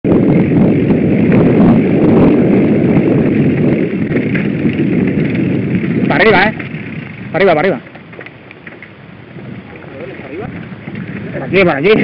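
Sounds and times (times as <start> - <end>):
wind buffeting microphone: 0.0 - 12.0
bike tyres rattling on trail: 0.1 - 12.0.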